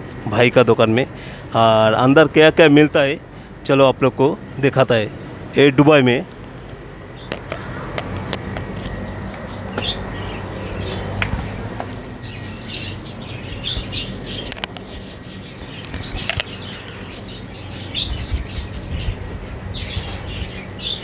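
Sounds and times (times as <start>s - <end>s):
caged birds chirping: 0.0s - 21.0s
steady low hum: 0.0s - 21.0s.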